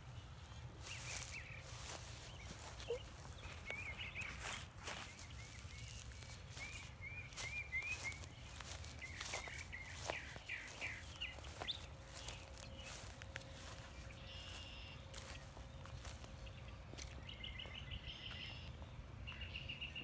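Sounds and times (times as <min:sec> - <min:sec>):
footsteps in dry grass: 0:00.0 - 0:18.7
bird chirping: 0:00.1 - 0:20.0.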